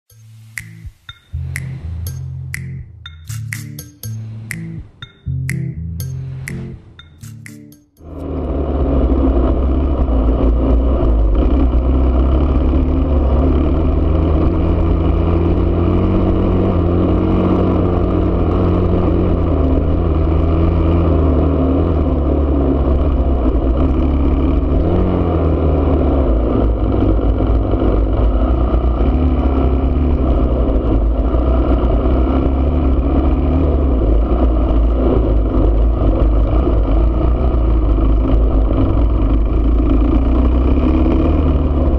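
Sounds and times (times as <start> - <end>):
motorcycle engine running: 0.1 - 41.9.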